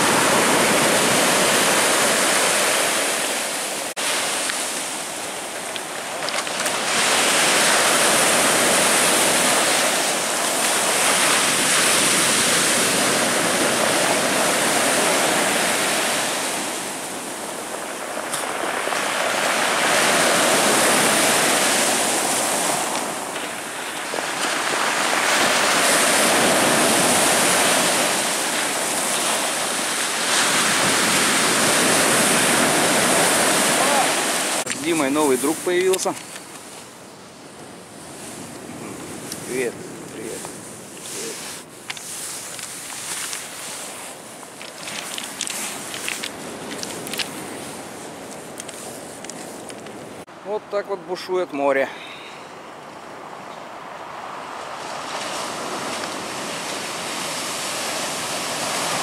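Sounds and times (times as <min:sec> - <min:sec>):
surf breaking on shore: 0:00.0 - 0:59.0.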